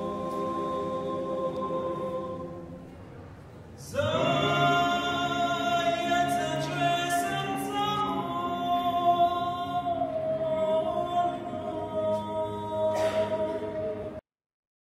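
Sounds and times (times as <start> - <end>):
male vocal group singing harmony: 0.0 - 2.8, 3.8 - 14.2.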